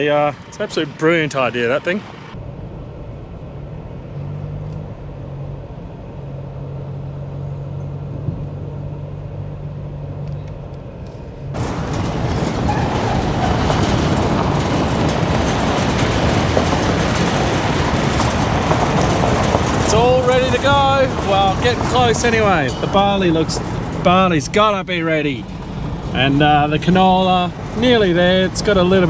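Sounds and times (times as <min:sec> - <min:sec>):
moving vehicle rushing and rattling: 0:00.0 - 0:29.0
vehicle engine droning: 0:00.0 - 0:29.0.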